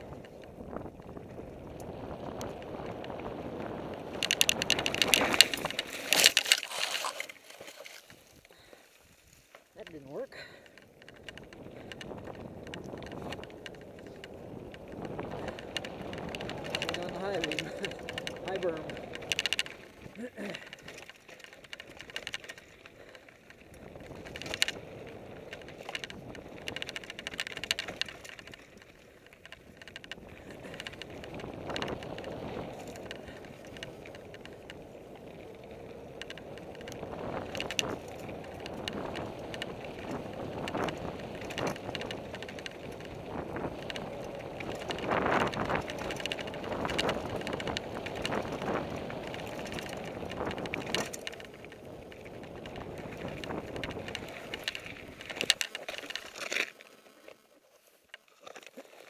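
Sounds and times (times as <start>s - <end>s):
bike rattling and knocking: 0.0s - 8.9s, 9.5s - 57.3s
bike tyres rumbling over dirt: 0.0s - 59.0s.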